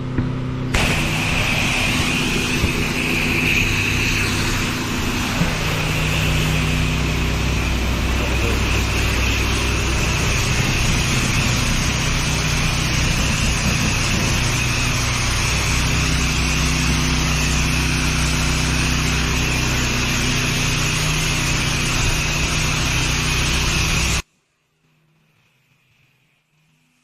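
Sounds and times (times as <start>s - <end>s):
pressure washer engine running: 0.0s - 24.2s
water jet spraying: 0.7s - 24.2s.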